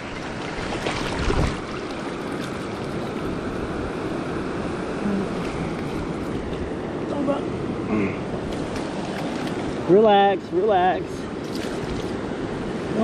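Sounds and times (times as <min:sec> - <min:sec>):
surf water rushing in shallows: 0:00.0 - 0:13.0.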